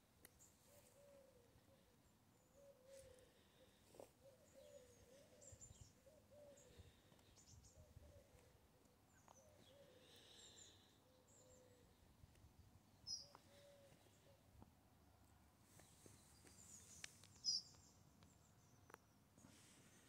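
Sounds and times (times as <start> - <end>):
faint bird chirps: 0.2 - 12.2, 12.9 - 14.5, 15.7 - 20.0.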